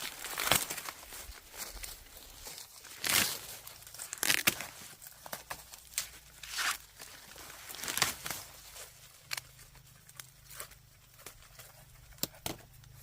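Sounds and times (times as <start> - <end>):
dry plants rustling and tearing: 0.0 - 13.0.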